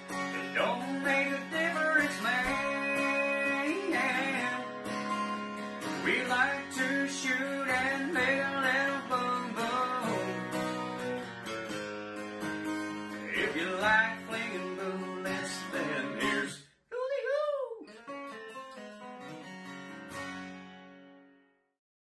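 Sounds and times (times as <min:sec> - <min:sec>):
guitar background music: 0:00.0 - 0:16.6, 0:17.9 - 0:21.6.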